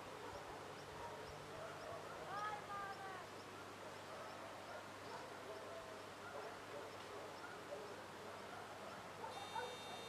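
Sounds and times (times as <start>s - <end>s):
faint outdoor ambience: 0.0s - 10.0s.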